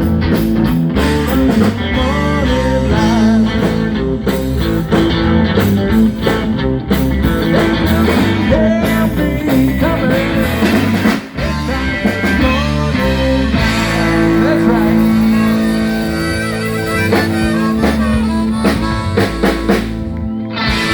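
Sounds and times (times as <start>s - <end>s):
blues-rock band playing: 0.0s - 20.9s
electric guitar: 0.0s - 20.9s.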